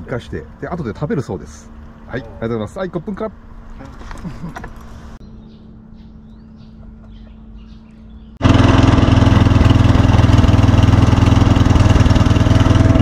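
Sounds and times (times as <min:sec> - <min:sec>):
boat engine running: 0:00.0 - 0:05.0, 0:06.7 - 0:13.0
low hum: 0:01.6 - 0:13.0.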